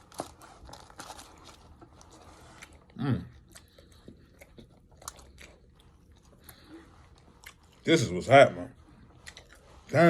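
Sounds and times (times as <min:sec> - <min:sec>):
chewing and crunching food: 0:00.0 - 0:10.0.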